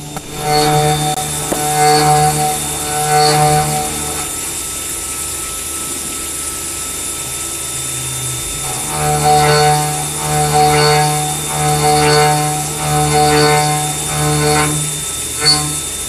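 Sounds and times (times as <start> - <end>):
milling cutter whine: 0.0 - 16.0.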